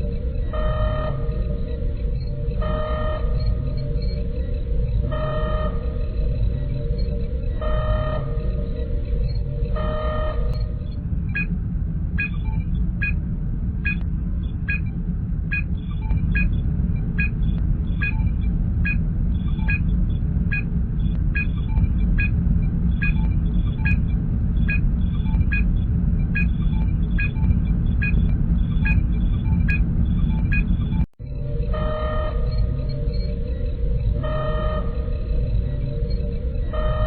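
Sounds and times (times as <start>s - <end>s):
low engine rumble: 0.0s - 37.0s.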